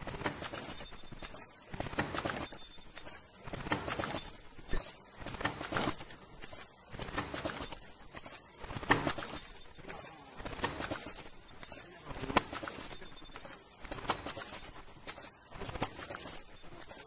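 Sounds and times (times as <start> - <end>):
machine clicking and clacking: 0.0 - 17.0.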